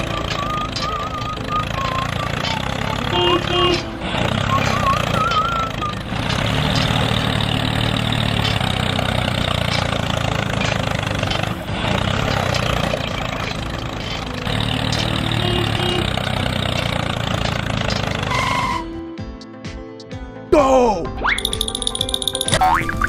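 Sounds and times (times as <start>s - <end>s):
toy tractor engine running: 0.0s - 19.0s.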